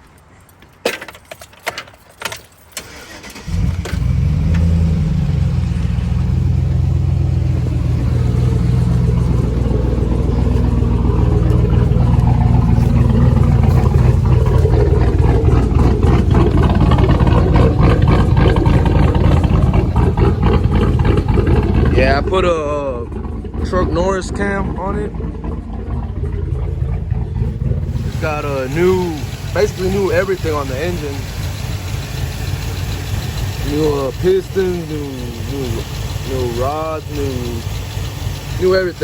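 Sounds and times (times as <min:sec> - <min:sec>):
engine starting and idling: 0:00.9 - 0:39.0.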